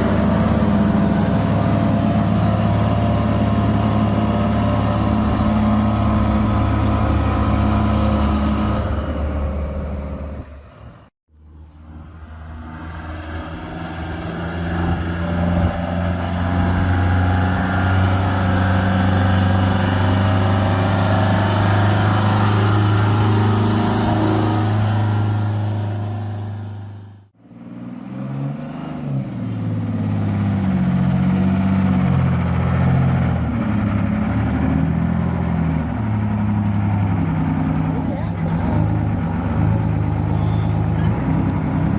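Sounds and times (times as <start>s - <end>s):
engine revving: 0.0s - 10.5s, 11.8s - 41.9s
truck engine running loud: 0.0s - 11.0s, 11.6s - 41.9s.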